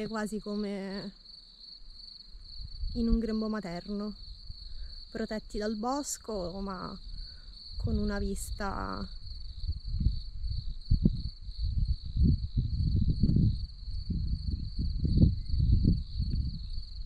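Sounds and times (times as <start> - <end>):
crickets trilling: 0.0 - 17.0
wind buffeting microphone: 2.4 - 17.0.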